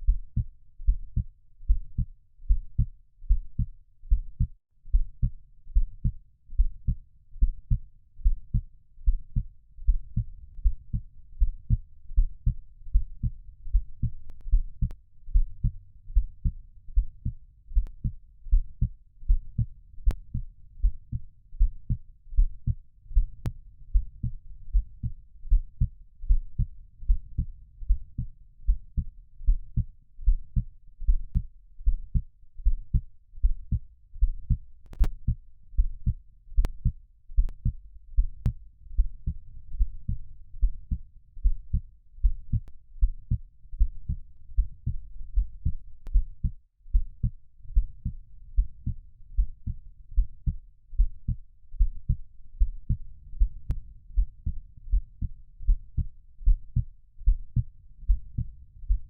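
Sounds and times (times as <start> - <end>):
heartbeat thuds: 0.0 - 59.0.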